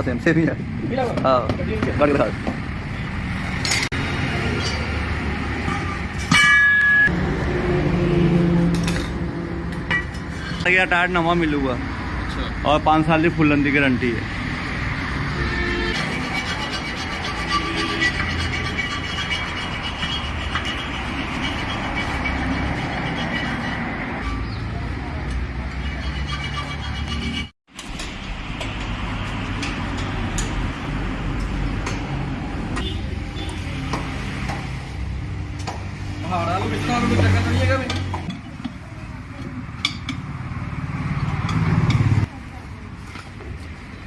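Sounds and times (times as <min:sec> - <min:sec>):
roadside traffic noise: 0:00.0 - 0:44.0.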